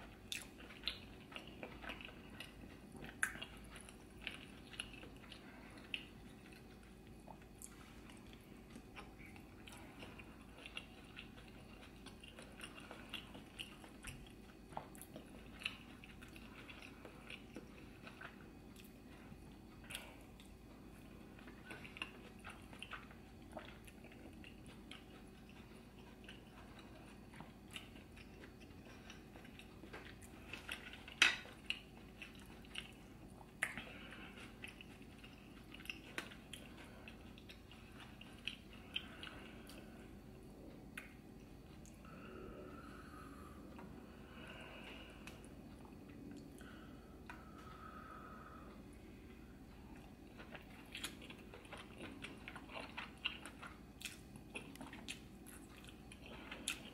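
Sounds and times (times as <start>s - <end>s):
person chewing and lip smacking: 0.0s - 56.9s.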